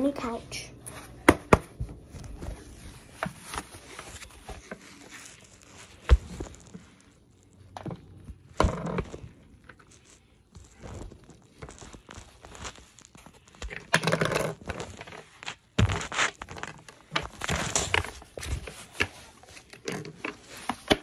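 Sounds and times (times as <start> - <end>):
scraping and rustling: 2.0 - 21.0.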